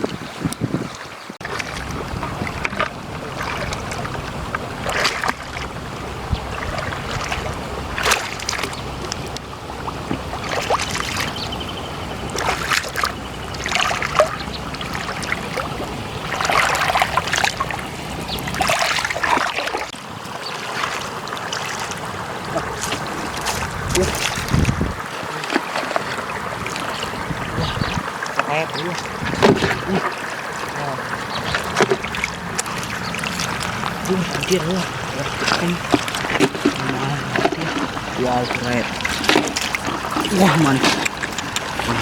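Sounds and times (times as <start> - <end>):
wind on microphone: 0.0 - 19.3, 22.4 - 25.4, 26.0 - 42.0
water splashing and sloshing: 0.0 - 42.0.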